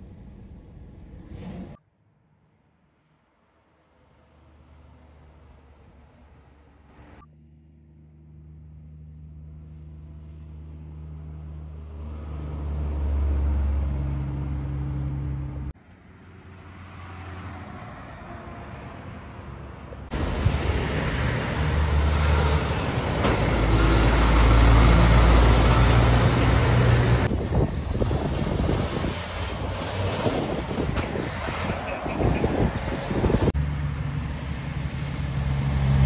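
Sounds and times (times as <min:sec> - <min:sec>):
truck diesel engine passing: 0:03.5 - 0:36.0.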